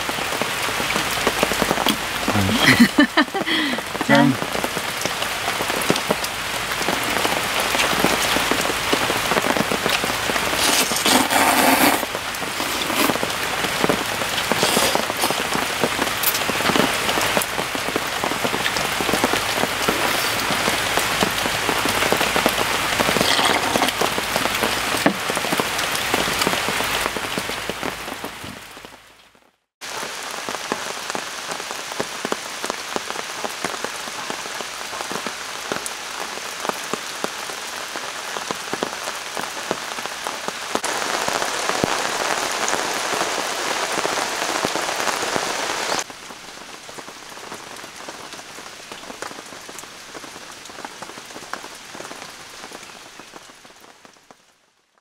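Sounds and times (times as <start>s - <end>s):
rain pattering on a tarp: 0.0s - 55.0s.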